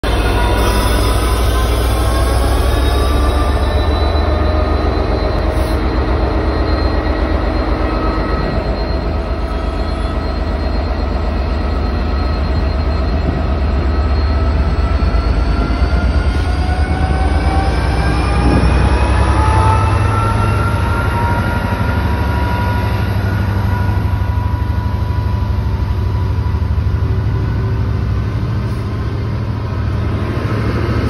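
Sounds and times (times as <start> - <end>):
diesel locomotive engine drone: 0.0 - 31.0.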